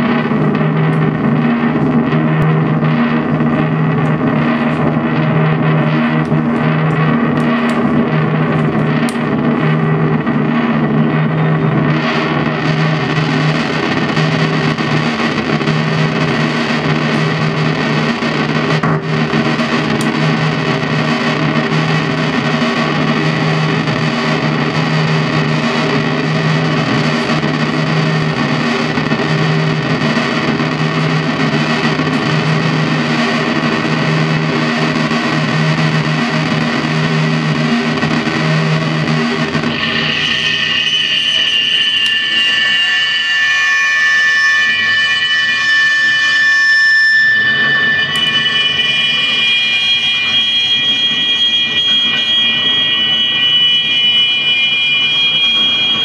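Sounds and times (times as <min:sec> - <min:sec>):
distorted synthesizer drone: 0:00.0 - 0:56.0
high whining tones: 0:00.0 - 0:56.0
low hum: 0:00.0 - 0:56.0.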